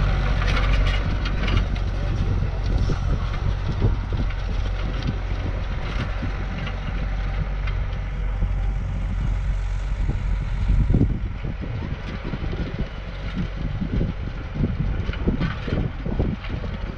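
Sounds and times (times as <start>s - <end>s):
tractor engine drone: 0.0s - 16.9s
wind buffeting microphone: 0.0s - 16.9s.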